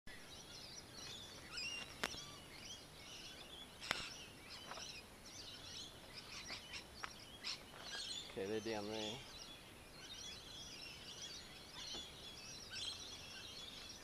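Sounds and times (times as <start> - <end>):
faint birdsong: 0.1 - 14.0.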